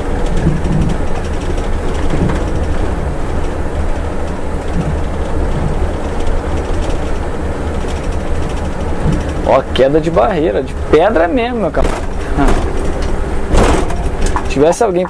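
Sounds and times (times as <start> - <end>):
bus engine running: 0.0 - 15.0
road rumble: 0.0 - 15.0.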